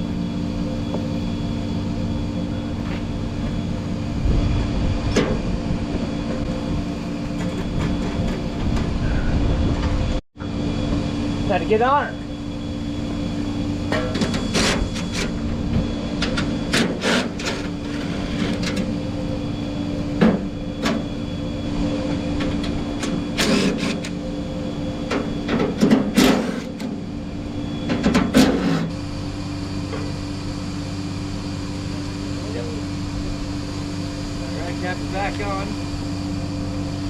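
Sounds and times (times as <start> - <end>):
steady machinery hum: 0.0 - 37.0.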